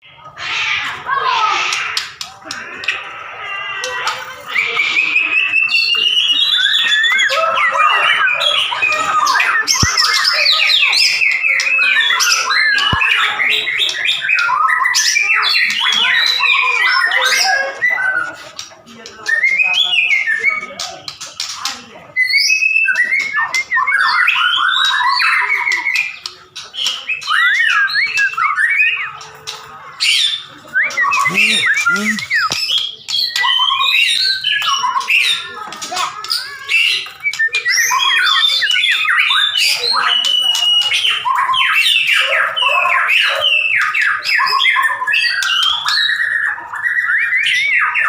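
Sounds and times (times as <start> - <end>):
bird singing whistles and chatter: 0.4 - 48.0.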